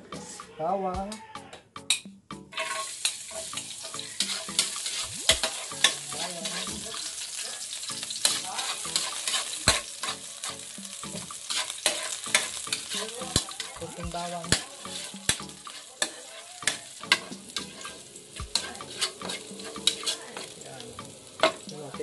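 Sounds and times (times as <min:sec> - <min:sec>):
spatula scraping a pan: 0:02.5 - 0:20.7
garlic sizzling in hot oil: 0:02.5 - 0:22.0.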